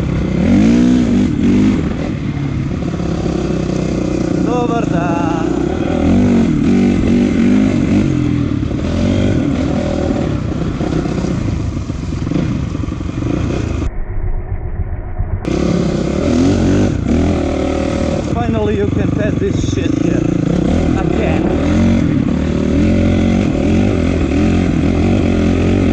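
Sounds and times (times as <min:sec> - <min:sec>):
dirt bike engine revving: 0:00.0 - 0:13.9, 0:15.4 - 0:25.9.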